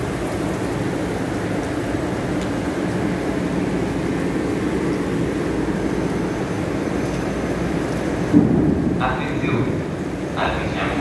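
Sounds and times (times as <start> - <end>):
railway platform low rumble: 0.0 - 11.0.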